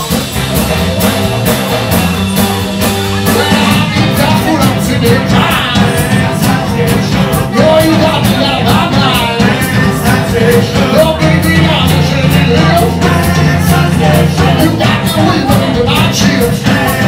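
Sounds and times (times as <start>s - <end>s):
rock and roll band playing: 0.0s - 17.0s
man singing into microphone: 3.2s - 17.0s.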